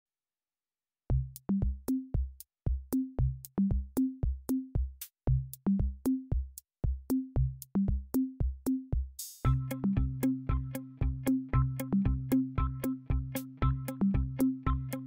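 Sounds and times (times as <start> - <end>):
drum machine beat: 1.1 - 15.0.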